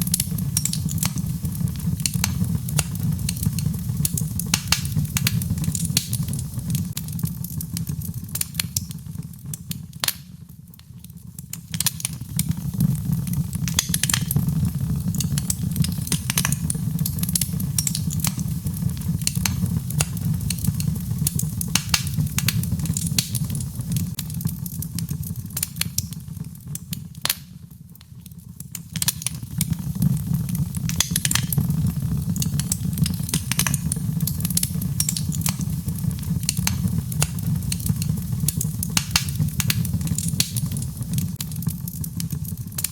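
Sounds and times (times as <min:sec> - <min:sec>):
fire crackling and popping: 0:00.0 - 0:42.9
low rumble of flame: 0:00.0 - 0:42.9.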